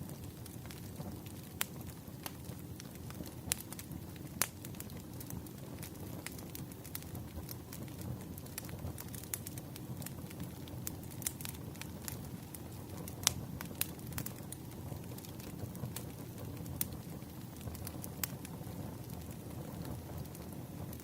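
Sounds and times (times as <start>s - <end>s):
campfire flames rumbling: 0.0s - 21.0s
fire crackles and snaps: 0.0s - 21.0s.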